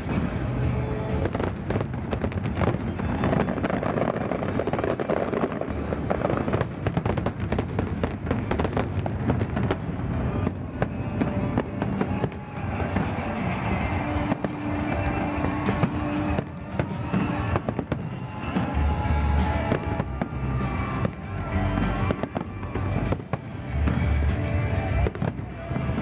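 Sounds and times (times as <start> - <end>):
fireworks bursting and crackling: 0.0 - 26.0
music playing: 0.0 - 26.0.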